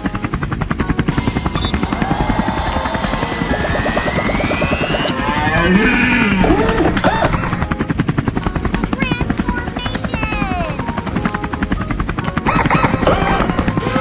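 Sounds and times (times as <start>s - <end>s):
cartoon helicopter rotor chopping: 0.0s - 14.0s.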